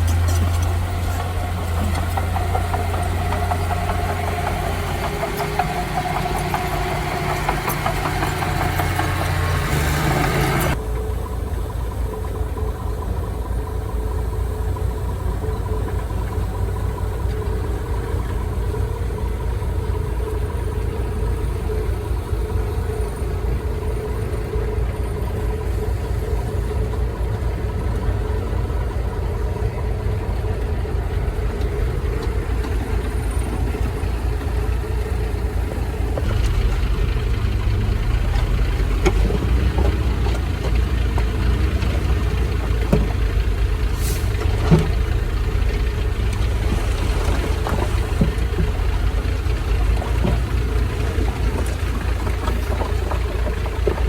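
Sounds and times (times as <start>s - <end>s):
harsh engine layer: 0.0s - 54.0s
heavy machinery engine droning: 0.0s - 54.0s.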